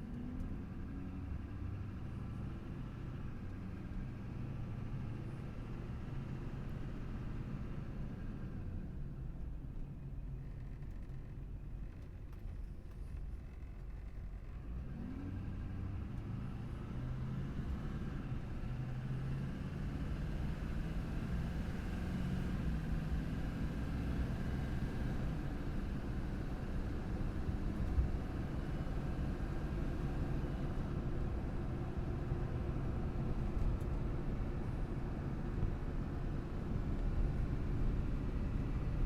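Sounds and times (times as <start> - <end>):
road noise rumble: 0.0 - 39.0.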